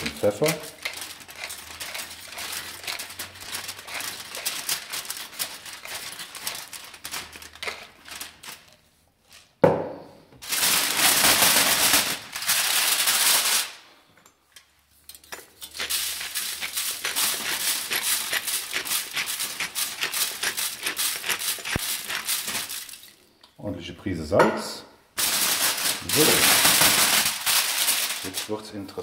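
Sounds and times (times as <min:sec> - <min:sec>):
foil crinkling: 0:00.0 - 0:08.8, 0:10.4 - 0:13.8, 0:15.6 - 0:23.2, 0:25.2 - 0:29.0
plastic bag rustling: 0:00.0 - 0:08.9, 0:10.4 - 0:13.8, 0:15.6 - 0:23.2, 0:25.2 - 0:29.0.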